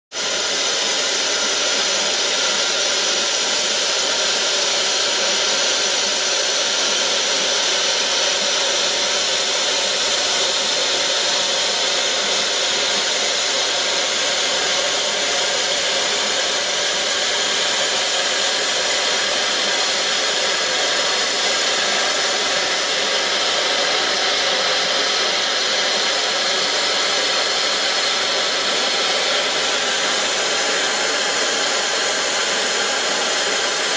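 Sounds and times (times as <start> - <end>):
steam locomotive hissing steam: 0.1 - 33.9.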